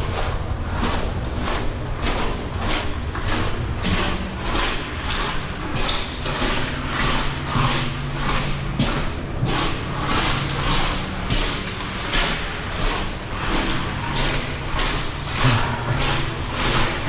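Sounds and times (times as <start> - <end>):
footsteps splashing in water: 0.0 - 17.0
steady low hum: 0.0 - 17.0.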